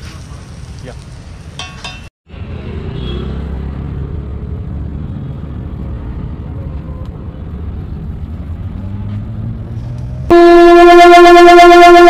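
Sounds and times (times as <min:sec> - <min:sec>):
street traffic engines rumbling: 0:00.0 - 0:12.0.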